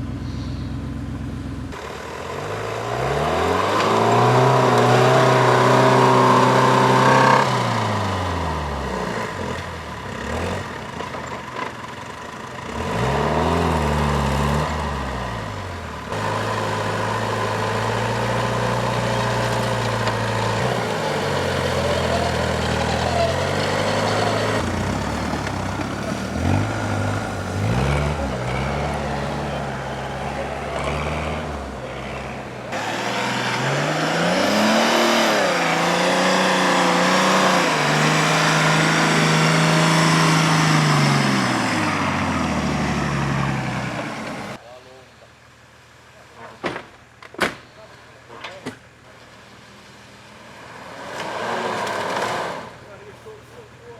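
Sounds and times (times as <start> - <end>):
vehicle engine revving: 0.0 - 44.6, 49.2 - 53.9.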